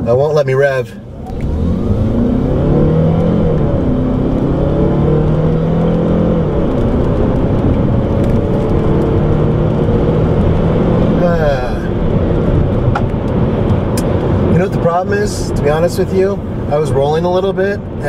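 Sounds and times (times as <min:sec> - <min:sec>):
car engine accelerating: 0:00.9 - 0:18.0.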